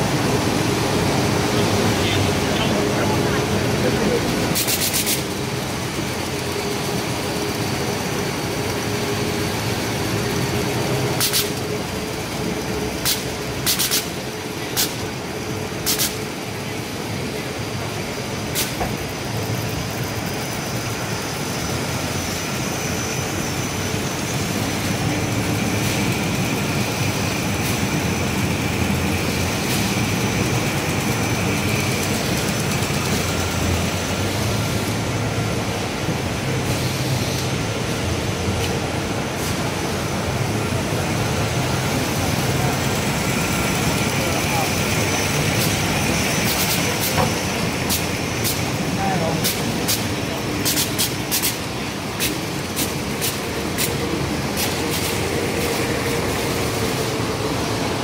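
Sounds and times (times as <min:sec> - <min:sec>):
machine rollers rumbling and whirring: 0:00.0 - 0:58.0.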